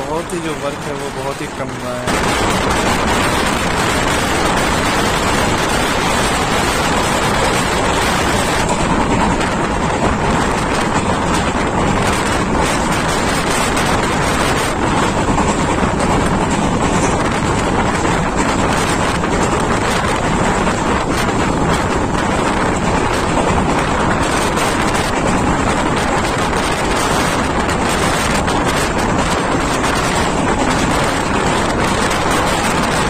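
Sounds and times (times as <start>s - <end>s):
train running noise: 0.0s - 33.0s
wind on microphone: 0.0s - 33.0s.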